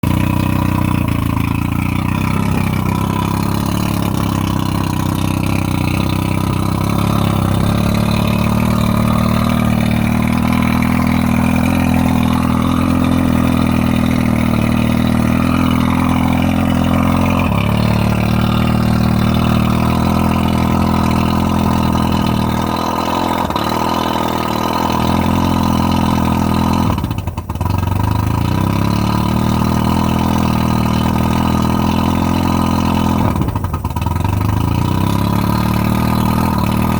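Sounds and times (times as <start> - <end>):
outboard motor idling roughly: 0.0 - 36.9.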